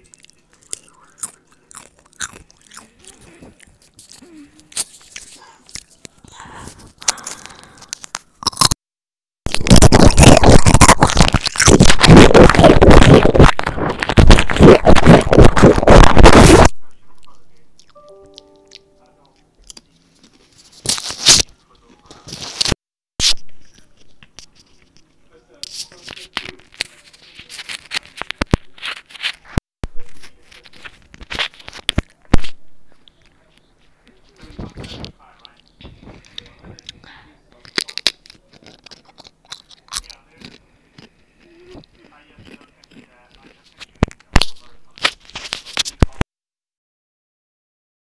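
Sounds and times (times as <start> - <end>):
chip crunching: 0.0 - 6.3, 6.9 - 8.8, 9.5 - 21.5, 22.2 - 46.0
mouth clicks and crackles: 0.0 - 8.8, 9.5 - 21.5, 22.1 - 46.2.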